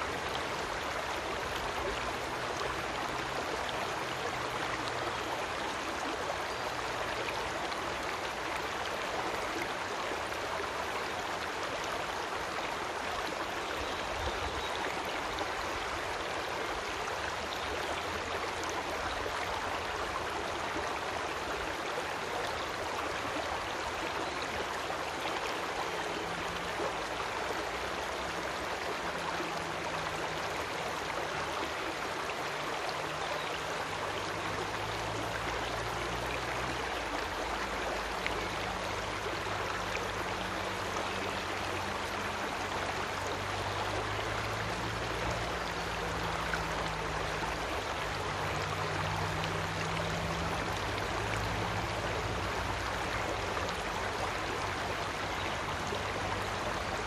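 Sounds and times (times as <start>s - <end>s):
creek water flowing over stones: 0.0s - 57.0s.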